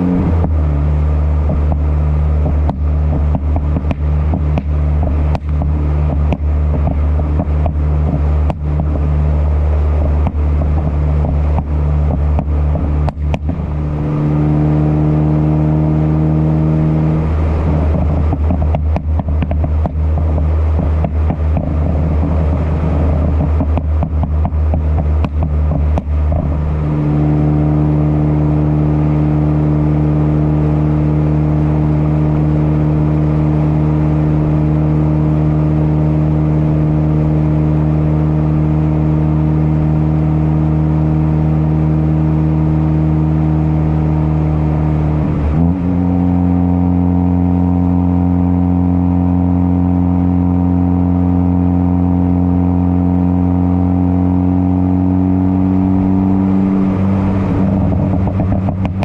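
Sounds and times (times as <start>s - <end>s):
car engine at steady revs: 0.0s - 59.0s.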